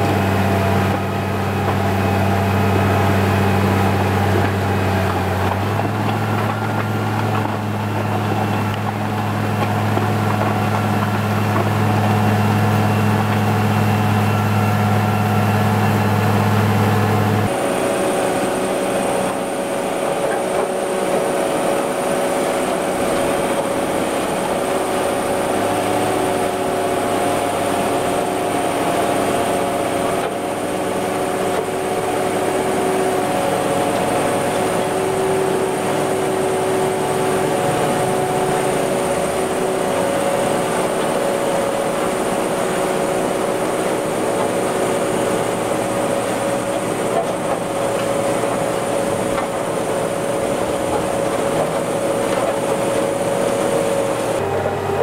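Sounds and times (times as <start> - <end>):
grader diesel engine running: 0.0 - 55.0.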